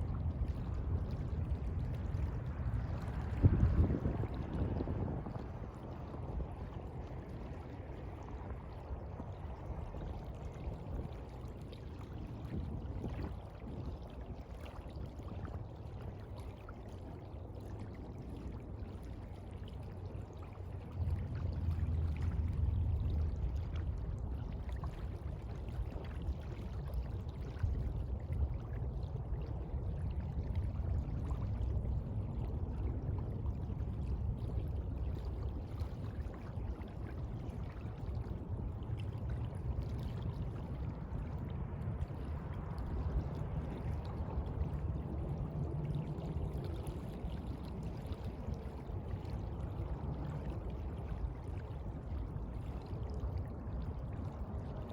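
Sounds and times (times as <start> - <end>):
sea water washing: 0.0 - 54.9.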